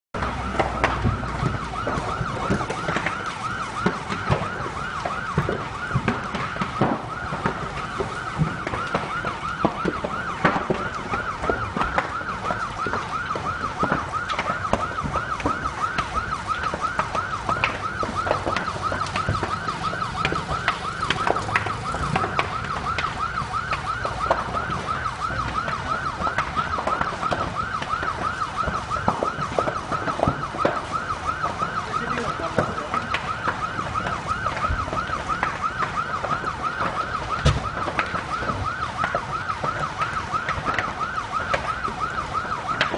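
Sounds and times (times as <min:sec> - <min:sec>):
burning timber cracking and popping: 0:00.2 - 0:42.9
emergency siren warbling: 0:00.2 - 0:42.9.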